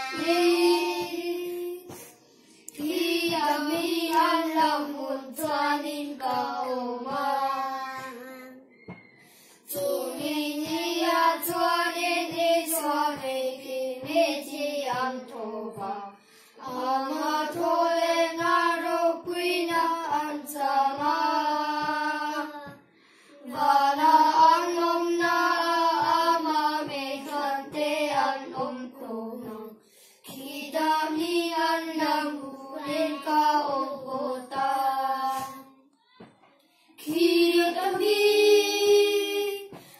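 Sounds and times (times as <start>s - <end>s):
children singing a hymn: 0.0s - 2.1s, 2.7s - 8.4s, 9.6s - 22.8s, 23.4s - 35.7s, 37.0s - 39.9s.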